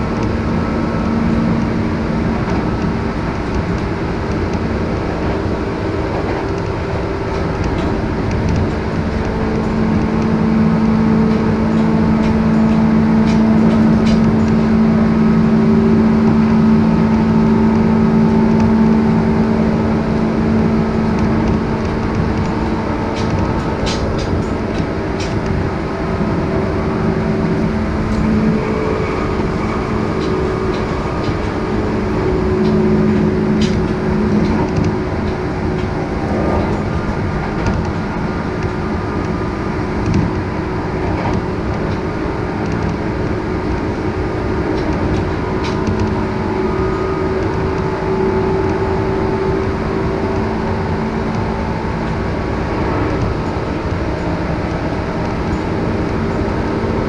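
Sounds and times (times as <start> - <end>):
train motor hum: 0.0 - 57.0
train wheels rumbling on rail: 0.0 - 57.0.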